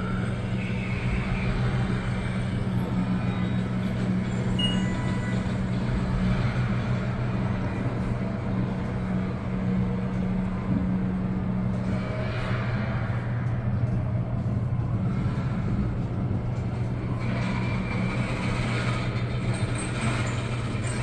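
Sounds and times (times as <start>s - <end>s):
elevator hum and rushing: 0.0s - 21.0s.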